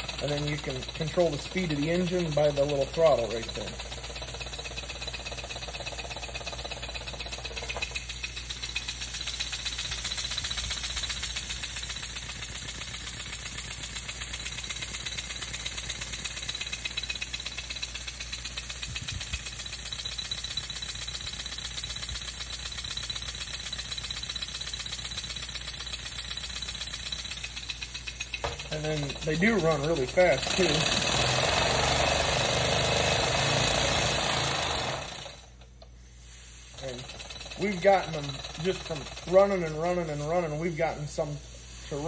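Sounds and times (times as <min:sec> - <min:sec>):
model engine rattling fast: 0:00.0 - 0:35.6, 0:36.7 - 0:42.0.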